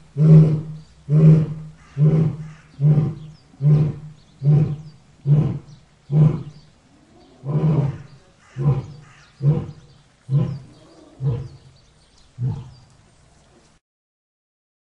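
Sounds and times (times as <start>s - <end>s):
lion roaring: 0.1s - 11.8s, 12.4s - 13.0s.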